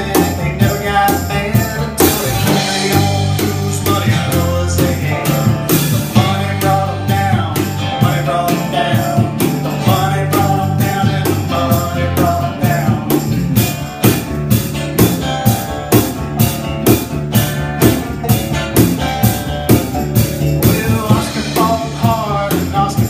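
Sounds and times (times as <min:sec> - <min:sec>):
banjo: 0:00.0 - 0:13.4, 0:14.8 - 0:23.0
acoustic and electric guitars: 0:00.0 - 0:23.0
held bass notes: 0:00.0 - 0:23.0
live band playing: 0:00.0 - 0:23.0
steady drum beat: 0:00.0 - 0:23.0.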